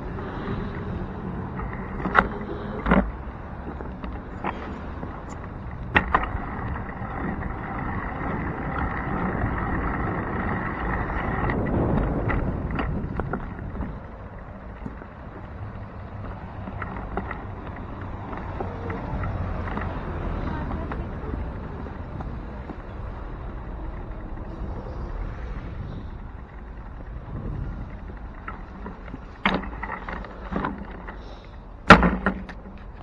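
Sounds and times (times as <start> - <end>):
street traffic: 0.0 - 33.0
wind noise: 0.0 - 33.0.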